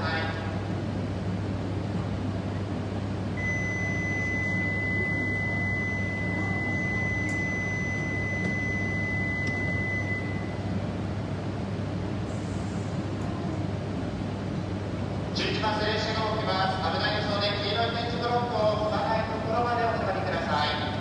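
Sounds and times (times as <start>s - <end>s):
low train hum: 0.0s - 21.0s.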